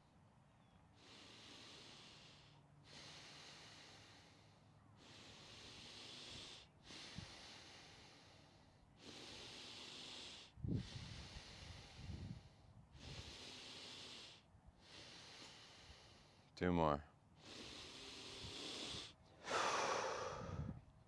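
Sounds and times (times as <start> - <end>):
deep rhythmic breathing: 1.0 - 16.6, 17.4 - 20.9.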